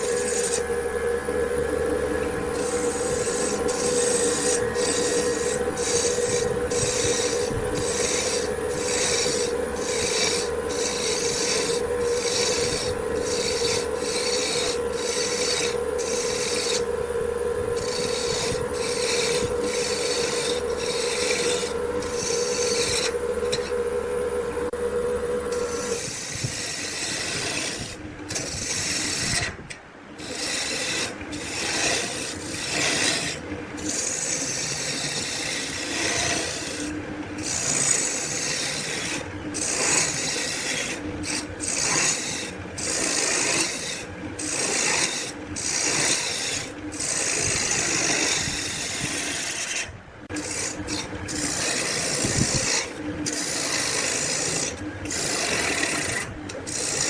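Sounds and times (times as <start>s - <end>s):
hand tool rasping wood: 0.0s - 57.0s.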